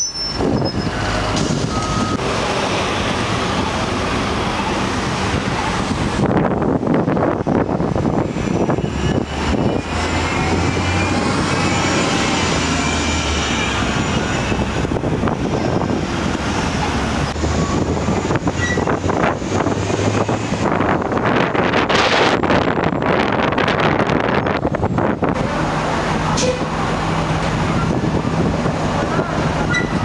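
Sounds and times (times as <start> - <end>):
bus engine whine: 0.0 - 30.0
traffic noise: 0.0 - 30.0
wind noise: 0.1 - 30.0.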